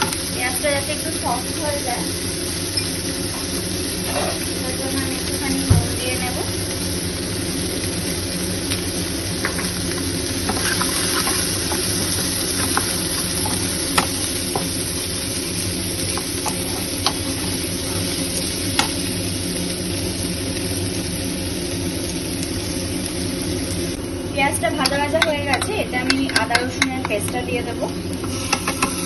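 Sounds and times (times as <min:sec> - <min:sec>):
onions sizzling in oil: 0:00.0 - 0:29.0.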